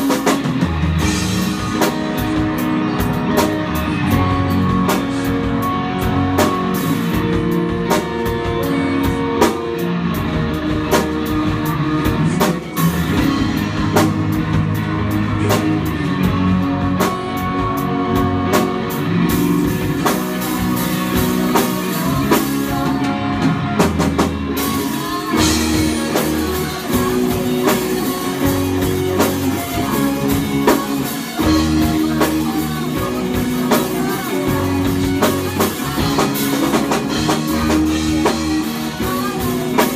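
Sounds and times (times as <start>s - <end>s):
electric guitars: 0.0s - 39.9s.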